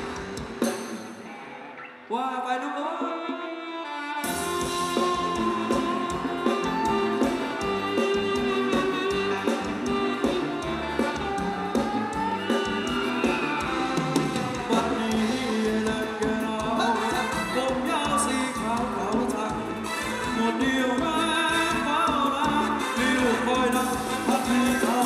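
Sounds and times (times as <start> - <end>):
drums and bass beat: 0.0 - 1.3, 4.2 - 25.0
live band dance music: 0.0 - 1.8, 3.2 - 25.0.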